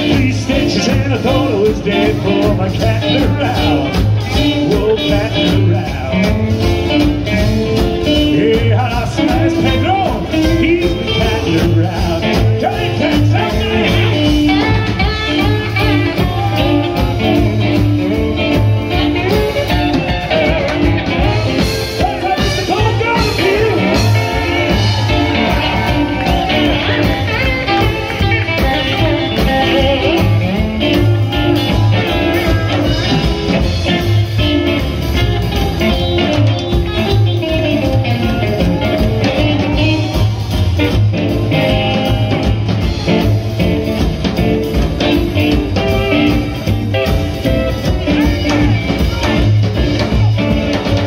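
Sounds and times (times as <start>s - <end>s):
live rockabilly band playing: 0.0s - 51.0s.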